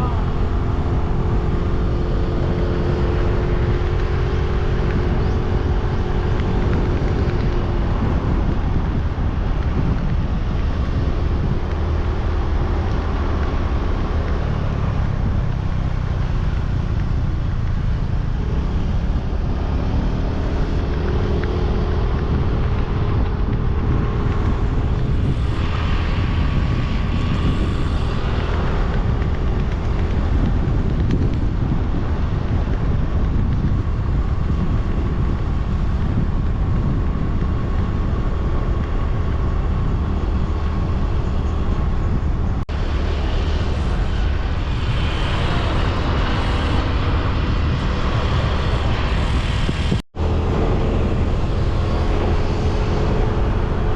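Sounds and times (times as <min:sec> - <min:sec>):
vehicle engine and road noise: 0:00.0 - 0:53.9.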